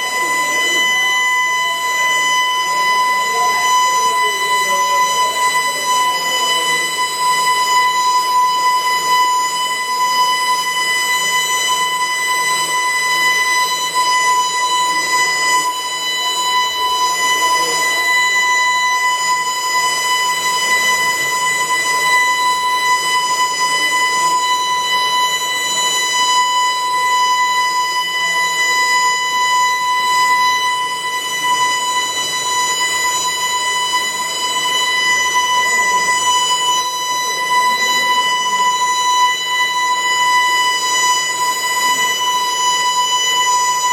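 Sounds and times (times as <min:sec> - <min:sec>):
alarm steady high tone: 0:00.0 - 0:43.9
faint murmur of voices: 0:00.0 - 0:43.9.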